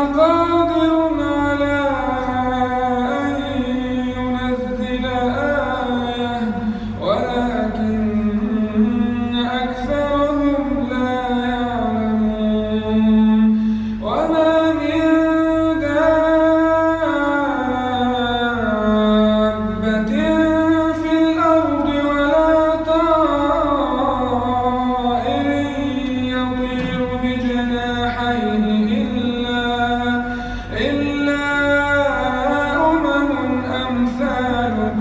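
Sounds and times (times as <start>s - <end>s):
man chanting melodically: 0.0s - 35.0s.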